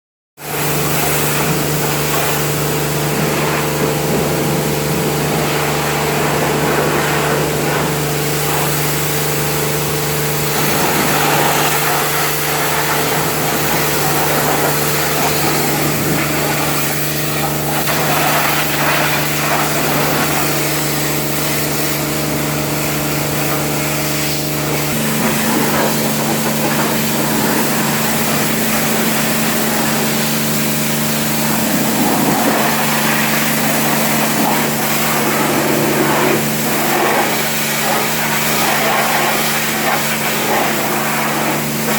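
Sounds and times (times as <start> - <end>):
motor or pump hum: 0.4 - 41.9
water spray hissing: 0.5 - 41.9.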